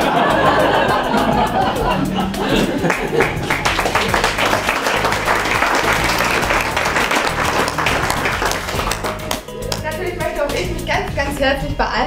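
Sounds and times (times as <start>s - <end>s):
crowd applauding: 0.0s - 9.9s
background music: 0.0s - 12.0s.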